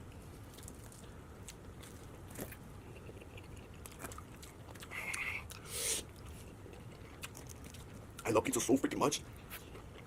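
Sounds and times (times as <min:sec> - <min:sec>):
wet chewing and mouth clicks: 0:00.1 - 0:08.4.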